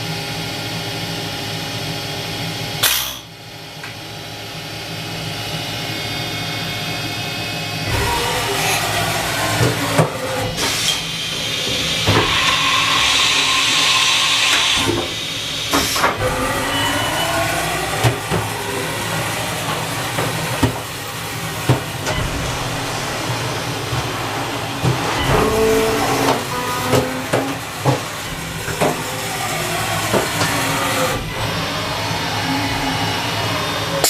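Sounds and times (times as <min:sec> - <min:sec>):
cnc machine humming: 0:00.0 - 0:34.0.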